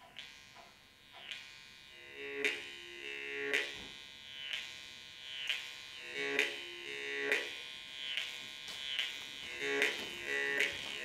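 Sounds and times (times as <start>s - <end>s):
jaw harp buzzing drone: 0.0s - 11.0s.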